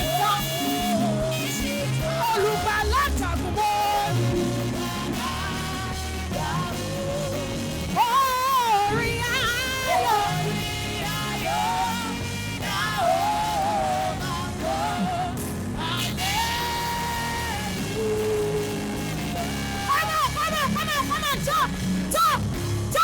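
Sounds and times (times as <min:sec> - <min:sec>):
band playing low chords: 0:00.0 - 0:23.0.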